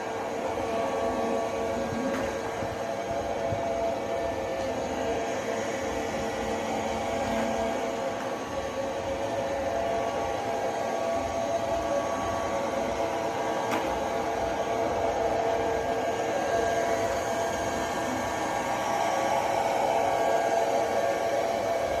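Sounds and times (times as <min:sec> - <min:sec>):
robot vacuum cleaner whirring: 0:00.0 - 0:22.0.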